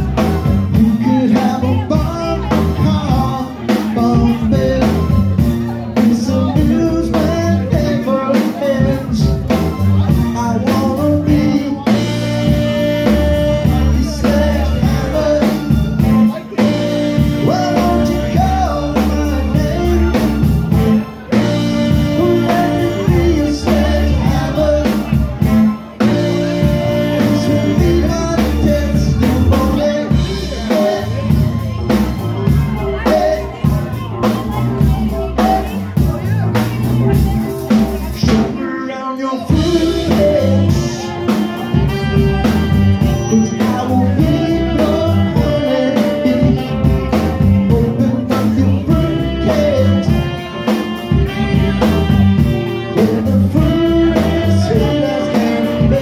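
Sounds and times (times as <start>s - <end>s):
live rock band playing: 0.0s - 56.0s
man singing lead vocal: 0.0s - 56.0s.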